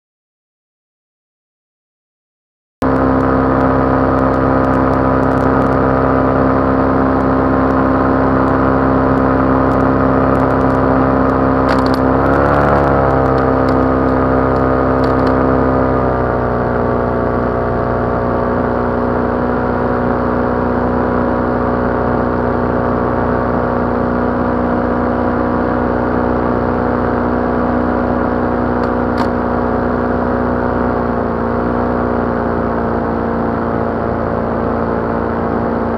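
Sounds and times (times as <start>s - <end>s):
paramotor engine and propeller: 2.8s - 35.9s.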